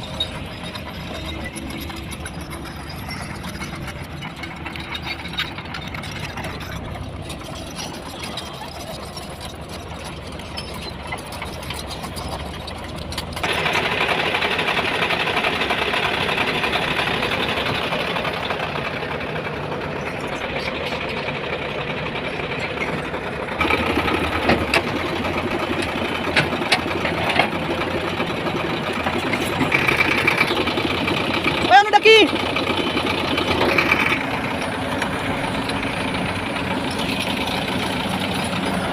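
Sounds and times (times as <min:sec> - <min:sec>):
diesel construction machine engine: 0:00.0 - 0:38.9.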